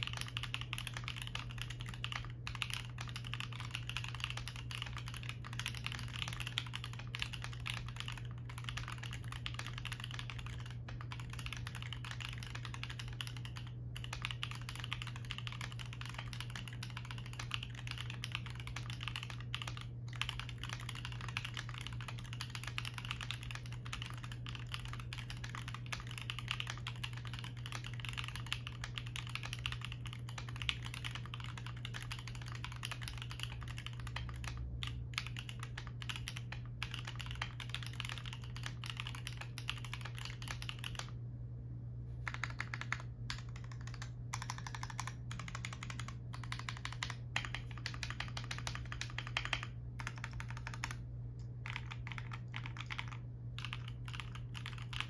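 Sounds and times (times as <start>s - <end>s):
mechanical keyboard typing: 0.0s - 41.2s, 42.2s - 55.0s
steady low hum: 0.0s - 55.0s.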